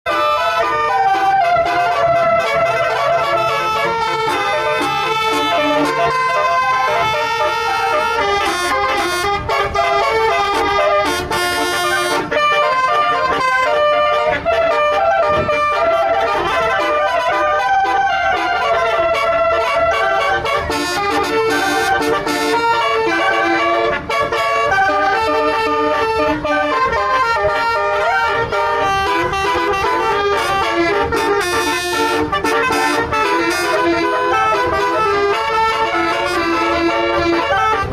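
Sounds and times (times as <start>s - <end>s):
multi-tone musical bus horn: 0.0s - 37.9s.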